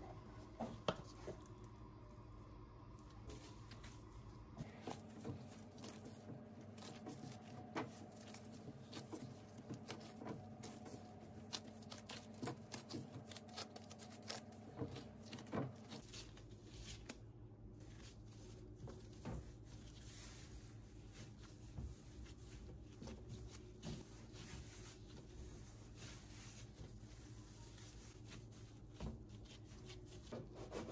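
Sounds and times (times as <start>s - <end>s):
faint steady hum: 0.0s - 30.9s
hands kneading dough: 0.0s - 30.9s.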